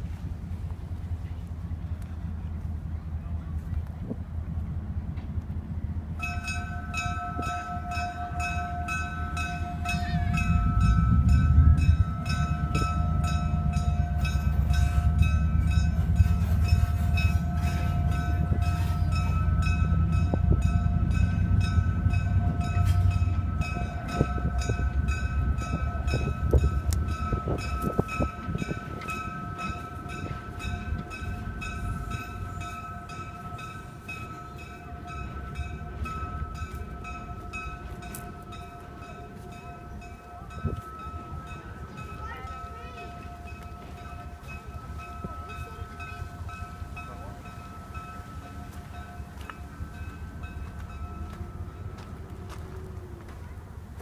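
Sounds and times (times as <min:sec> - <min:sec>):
locomotive engine rumble: 0:00.0 - 0:54.0
locomotive bell ringing: 0:06.1 - 0:53.6.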